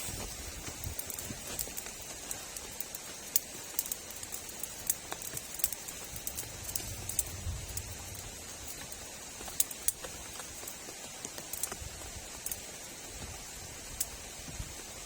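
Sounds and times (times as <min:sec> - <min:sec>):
rain hiss: 0:00.0 - 0:15.0
raindrops ticking nearby: 0:00.0 - 0:15.0.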